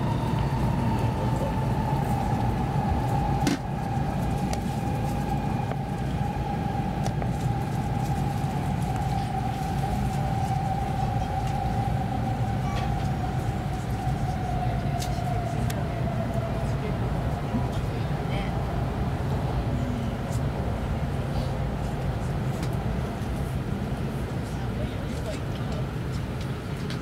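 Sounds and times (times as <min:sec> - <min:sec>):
train running rumble: 0:00.0 - 0:27.0.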